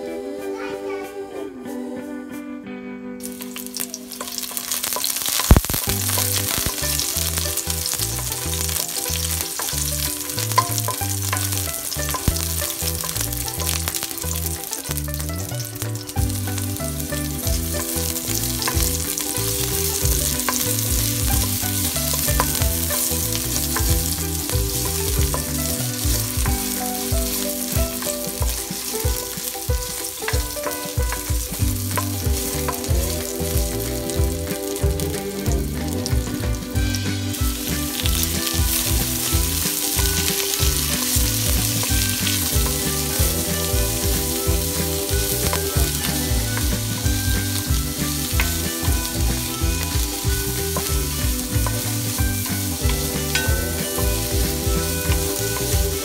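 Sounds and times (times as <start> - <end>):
garlic sizzling in hot oil: 3.2 - 56.0.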